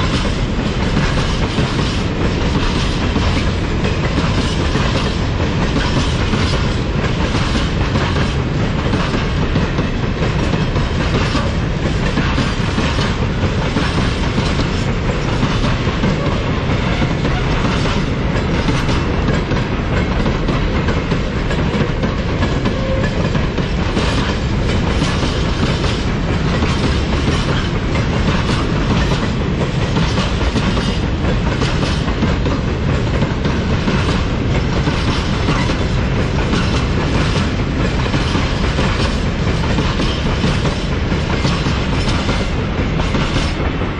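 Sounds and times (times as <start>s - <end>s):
train wheels clacking over joints: 0.0s - 43.9s.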